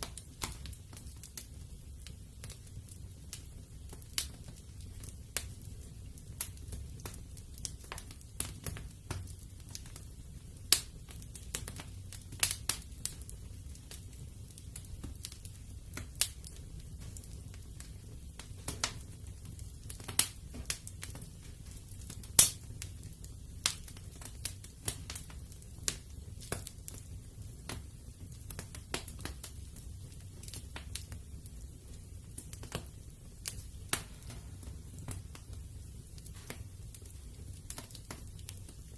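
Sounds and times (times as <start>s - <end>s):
fireplace fire crackling and popping: 0.0s - 38.9s.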